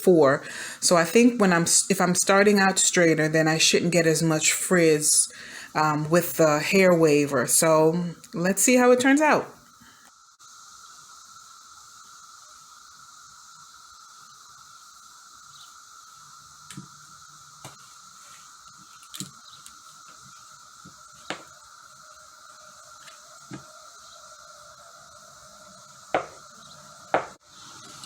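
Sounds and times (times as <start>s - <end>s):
background hiss: 0.0s - 28.0s
faint steady tone: 3.0s - 27.4s.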